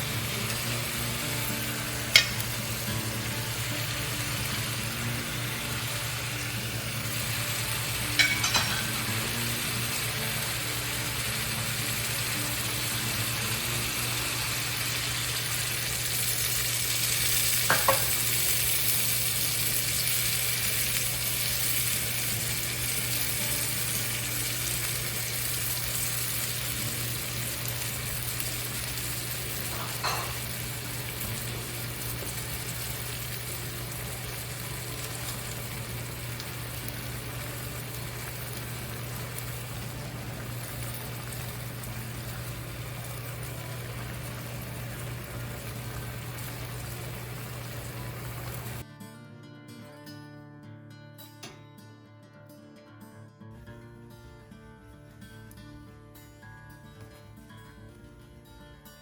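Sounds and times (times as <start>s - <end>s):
food sizzling in oil: 0.0s - 48.8s.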